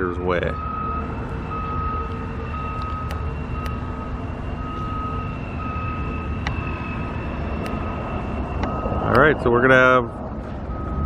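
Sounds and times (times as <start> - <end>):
backup alarm beeping: 0.0 - 9.9, 10.6 - 11.0
diesel engine rumble: 0.0 - 11.0.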